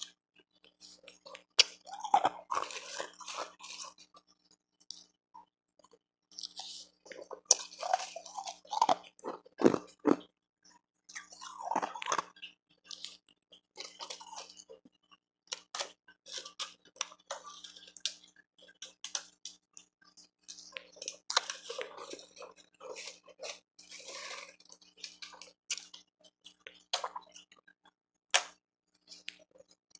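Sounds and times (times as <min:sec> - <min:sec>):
crunching and chewing ice: 0:00.0 - 0:10.4, 0:11.1 - 0:28.0.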